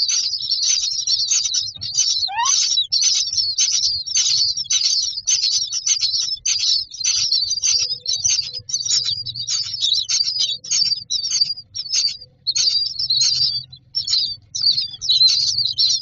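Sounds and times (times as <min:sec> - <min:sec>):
bird chicks begging calls: 0:00.0 - 0:16.0.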